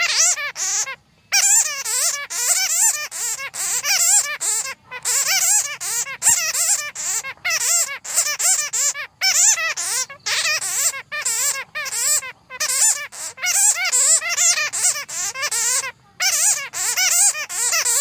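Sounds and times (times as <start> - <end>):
bats squeaking and chattering: 0.0 - 18.0.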